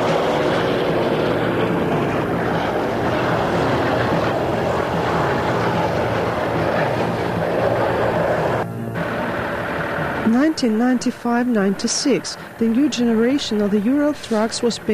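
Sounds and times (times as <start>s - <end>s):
truck diesel engine running: 0.0s - 14.9s.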